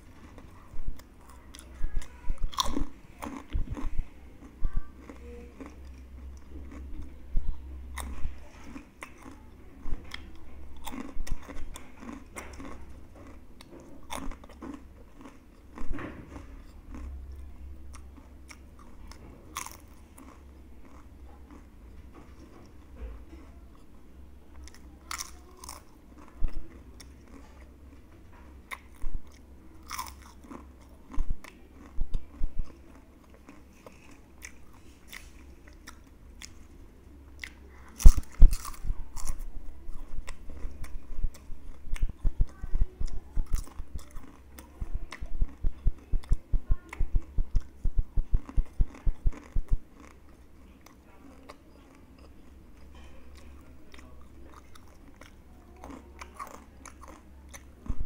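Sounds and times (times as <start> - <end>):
crunching chips being chewed: 0.2 - 7.1, 8.0 - 9.4, 10.0 - 21.7, 24.6 - 27.7, 28.6 - 36.7, 37.4 - 58.0.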